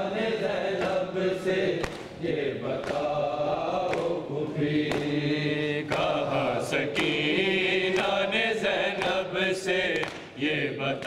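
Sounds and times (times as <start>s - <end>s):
men chanting in unison: 0.0s - 11.0s
rhythmic chest-beating: 0.0s - 11.0s.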